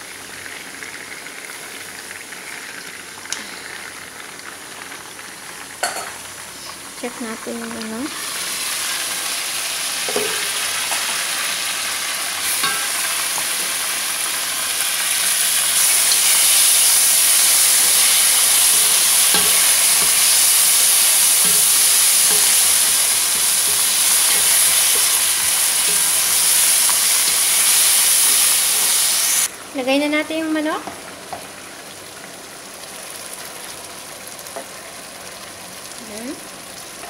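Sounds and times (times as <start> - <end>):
masala sizzling in a pot: 0.0 - 37.0.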